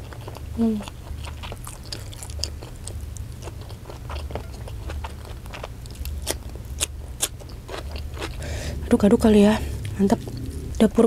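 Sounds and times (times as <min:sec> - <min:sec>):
chewing with wet mouth smacks: 0:00.0 - 0:08.5, 0:09.7 - 0:11.0
steady low hum: 0:00.0 - 0:11.0.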